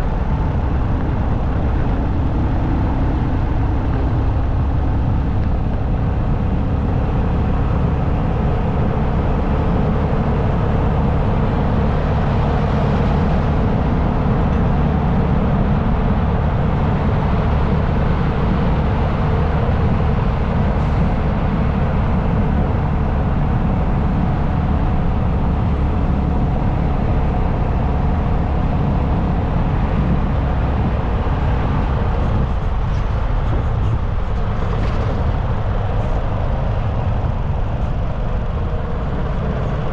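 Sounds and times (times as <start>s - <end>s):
motorcycle engine drone: 0.0s - 39.9s
wind rush on microphone: 0.0s - 39.9s.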